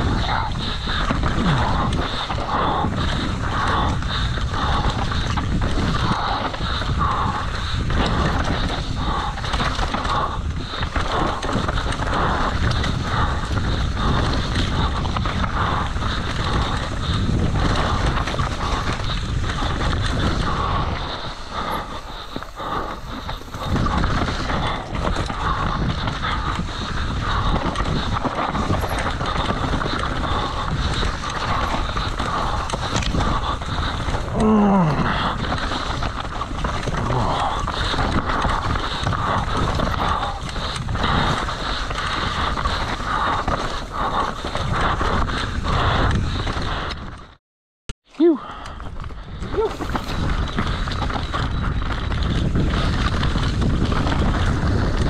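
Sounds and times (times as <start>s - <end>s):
mountain bike rattling on dirt trail: 0.0s - 47.4s, 48.4s - 55.0s.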